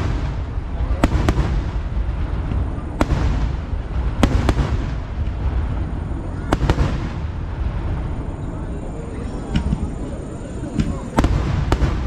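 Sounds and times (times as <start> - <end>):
fireworks bursting with sharp bangs: 0.0 - 12.0
steady low rumble: 0.0 - 12.0.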